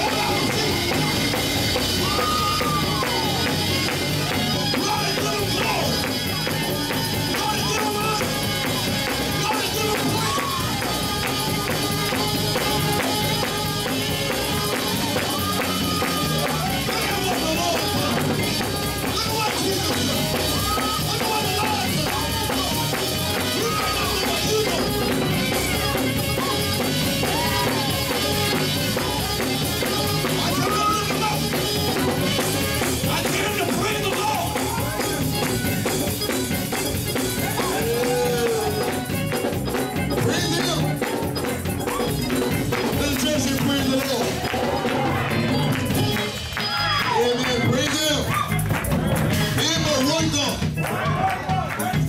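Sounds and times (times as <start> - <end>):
band playing: 0.0 - 52.0
drums: 0.0 - 52.0
voices: 0.0 - 52.0.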